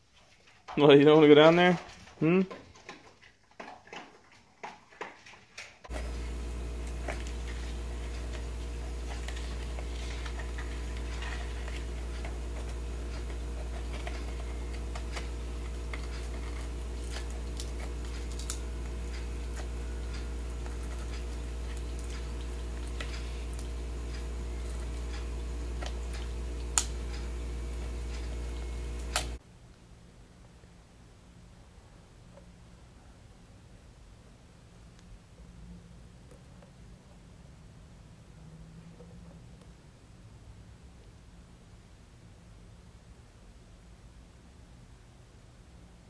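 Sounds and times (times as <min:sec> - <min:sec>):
low electrical hum: 0:05.8 - 0:46.0.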